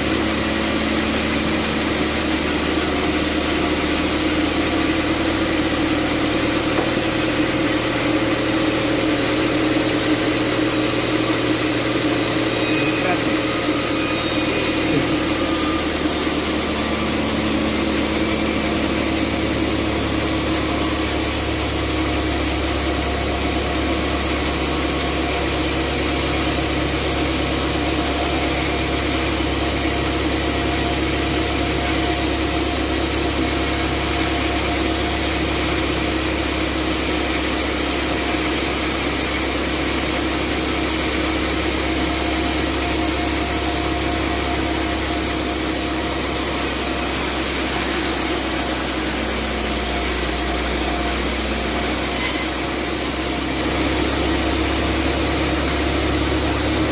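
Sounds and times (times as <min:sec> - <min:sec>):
band saw running: 0:00.0 - 0:56.9.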